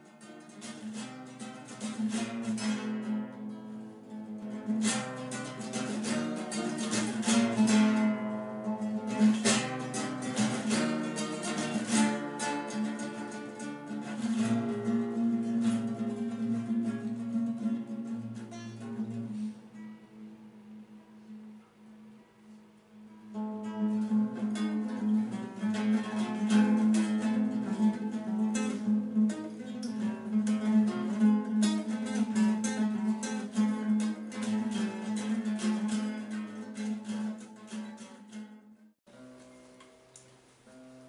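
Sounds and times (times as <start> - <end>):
plucked string instrument: 0.0 - 41.0.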